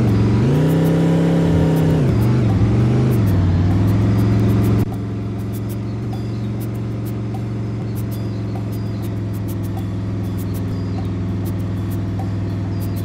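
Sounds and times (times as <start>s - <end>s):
bus engine revving: 0.0s - 13.0s.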